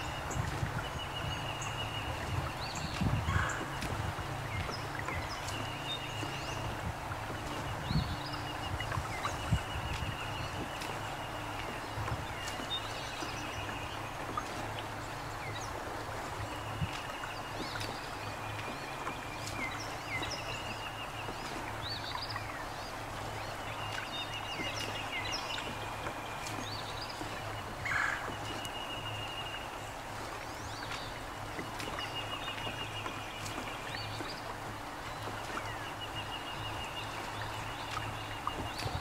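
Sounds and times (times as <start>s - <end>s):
songbirds singing: 0.0s - 39.0s.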